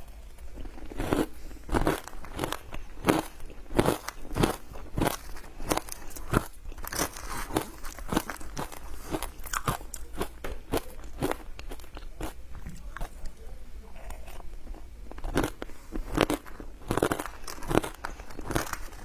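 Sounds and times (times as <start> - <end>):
ice crunching and chewing: 0.0 - 19.0.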